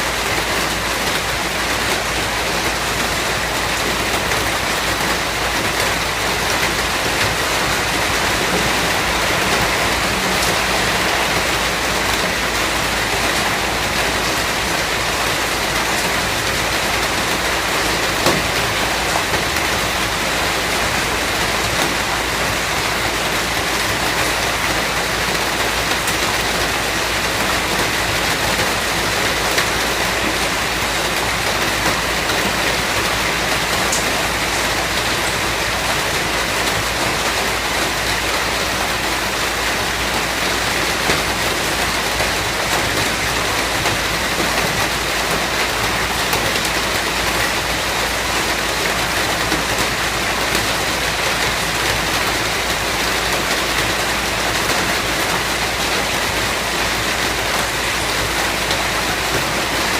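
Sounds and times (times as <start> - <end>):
rain falling hiss: 0.1 - 59.9.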